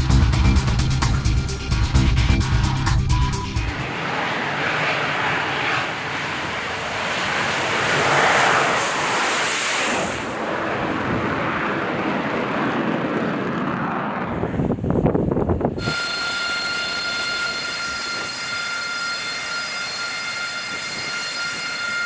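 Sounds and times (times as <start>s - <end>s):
jet engine roaring: 2.5s - 22.0s.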